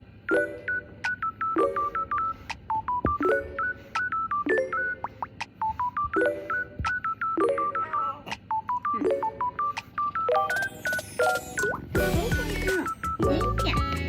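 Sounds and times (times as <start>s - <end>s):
beep-like melody: 0.3s - 14.0s.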